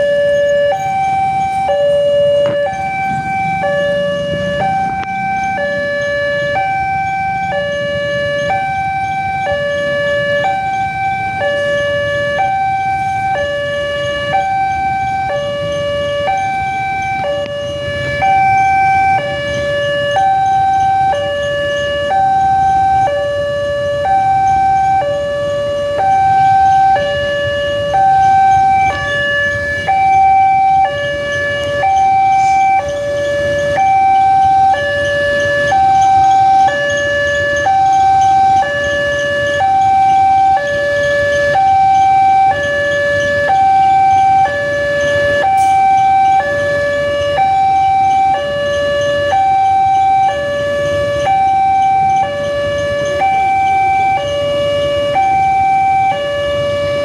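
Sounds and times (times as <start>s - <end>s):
low rumble of road traffic: 0.0s - 57.0s
two-tone level-crossing alarm: 0.0s - 57.0s.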